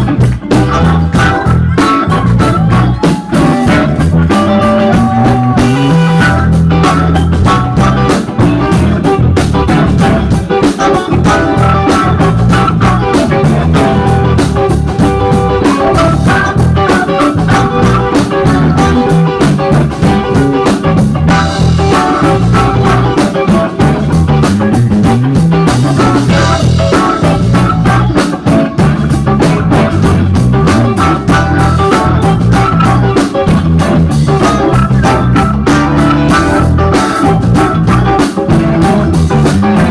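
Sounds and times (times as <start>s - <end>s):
drum kit: 0.0s - 39.9s
electric bass: 0.0s - 39.9s
electric guitar lines: 0.0s - 39.9s.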